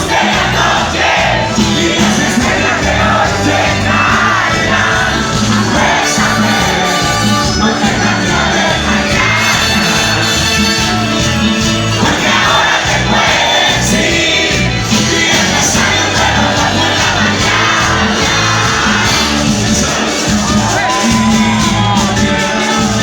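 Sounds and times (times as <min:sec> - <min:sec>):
crowd shouting and singing along: 0:00.0 - 0:23.0
live cumbia music with heavy bass: 0:00.0 - 0:23.0.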